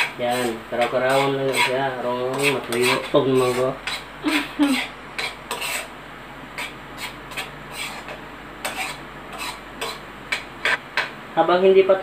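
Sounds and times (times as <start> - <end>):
metal spoon scraping metal pan: 0.0 - 5.9, 6.6 - 10.8.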